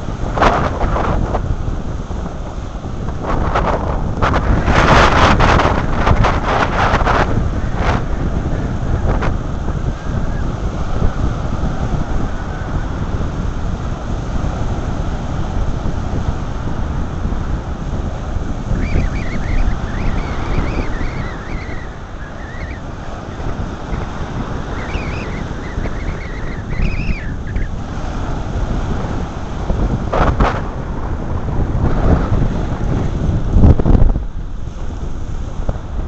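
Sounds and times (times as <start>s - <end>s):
waves washing on shore: 0.0s - 36.0s
wind buffeting microphone: 0.0s - 36.0s.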